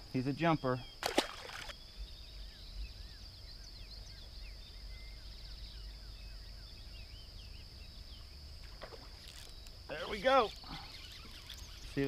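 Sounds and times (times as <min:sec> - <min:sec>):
steady high-pitched hiss: 0:00.0 - 0:12.0
birds chirping and calling: 0:00.4 - 0:12.0.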